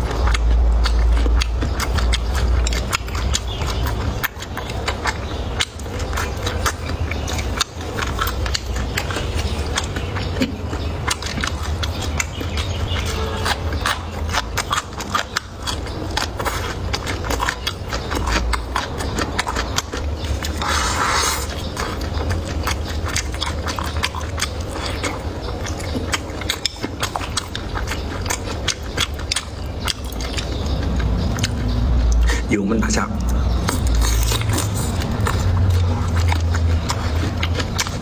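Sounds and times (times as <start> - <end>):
chewing and biting food: 0.0 - 38.0.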